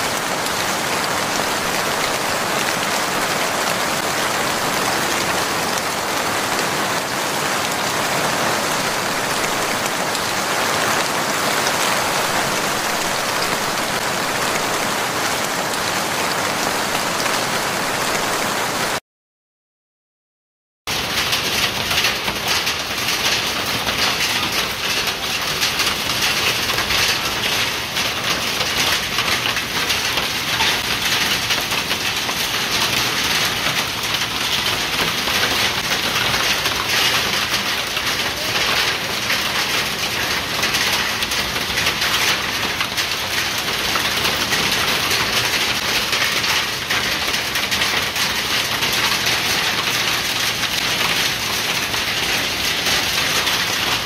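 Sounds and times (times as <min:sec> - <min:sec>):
heavy rain and hail on paving: 0:00.0 - 0:19.0, 0:20.9 - 0:54.0.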